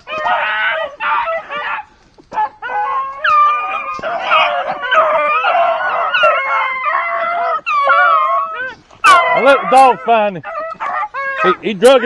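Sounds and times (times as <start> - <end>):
beagles baying and howling: 0.0 - 12.0.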